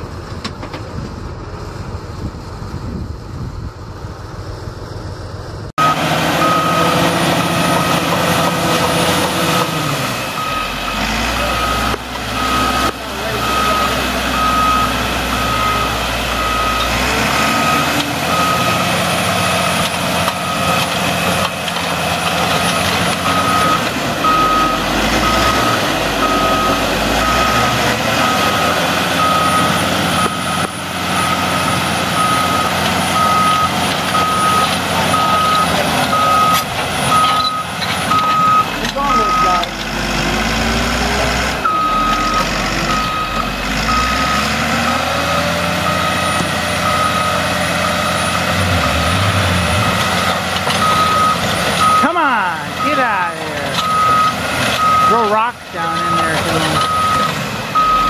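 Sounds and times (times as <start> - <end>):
heavy machine engine running: 0.0 - 58.0
reversing alarm beeping: 5.8 - 8.2, 9.5 - 21.0, 22.5 - 39.7, 41.6 - 58.0.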